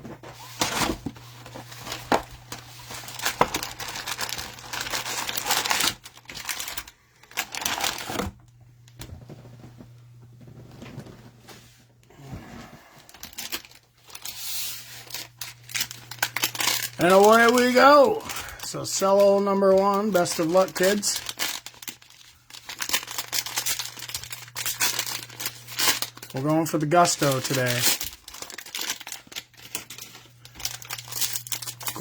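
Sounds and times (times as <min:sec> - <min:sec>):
cellophane crinkling and tearing: 0:00.4 - 0:08.4, 0:13.0 - 0:32.0.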